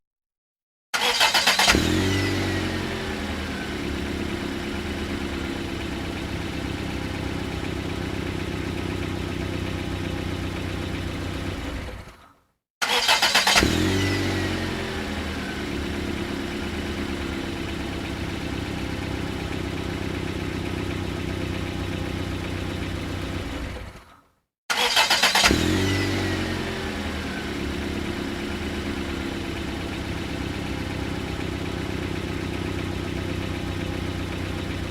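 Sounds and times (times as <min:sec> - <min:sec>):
car engine starting and idling: 0:01.0 - 0:24.1, 0:24.7 - 0:34.9.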